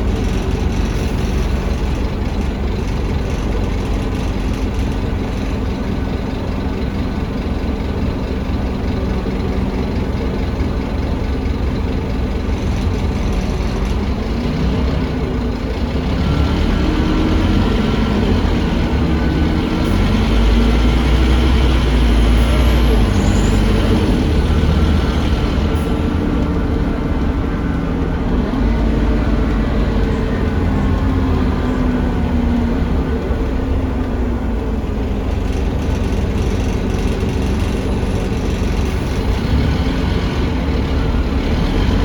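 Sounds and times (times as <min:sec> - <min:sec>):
bus diesel engine: 0:00.0 - 0:42.0.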